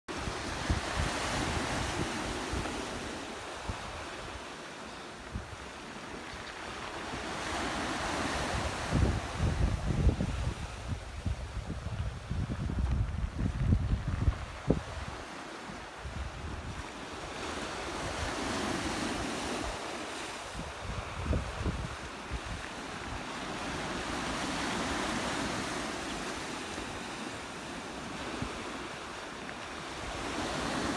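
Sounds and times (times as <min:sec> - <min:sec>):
wind buffeting microphone: 0:00.1 - 0:04.4, 0:06.4 - 0:27.1
small waves breaking on beach: 0:00.1 - 0:30.9.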